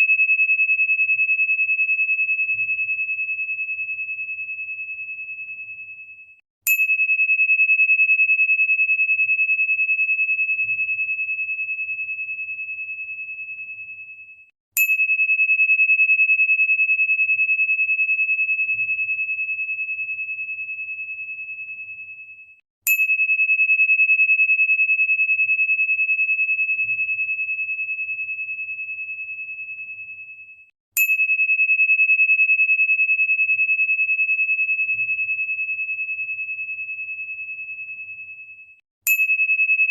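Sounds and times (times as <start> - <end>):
high pure ringing tone: 0.0 - 39.9.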